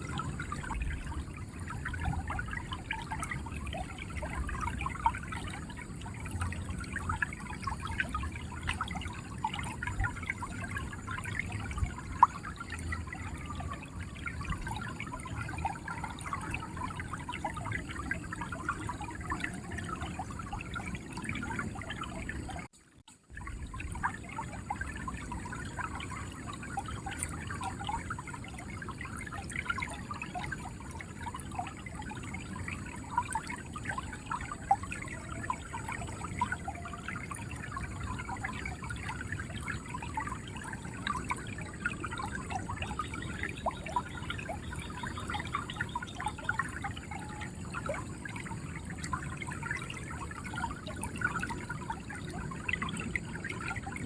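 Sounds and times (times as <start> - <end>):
river water flowing and gurgling: 0.0 - 54.0.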